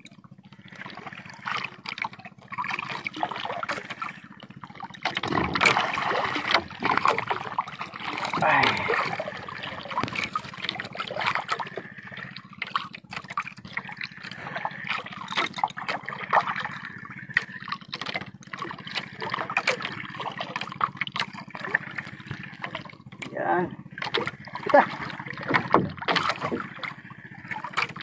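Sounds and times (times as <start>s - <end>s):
water lapping against boat hull: 0.0s - 28.0s.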